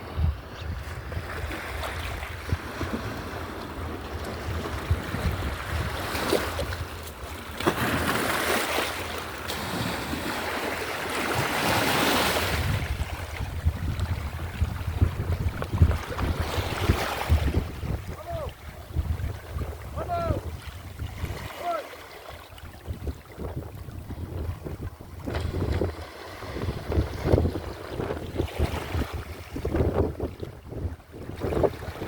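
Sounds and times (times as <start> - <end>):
wind on microphone: 0.0 - 8.4, 9.5 - 21.6, 22.5 - 32.0
sea waves washing in: 1.2 - 32.0.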